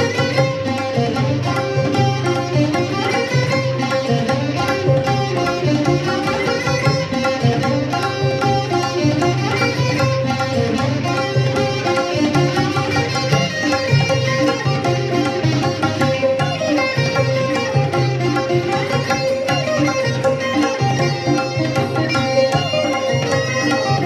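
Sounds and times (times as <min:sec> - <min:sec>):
plucked sarod: 0:00.0 - 0:24.0.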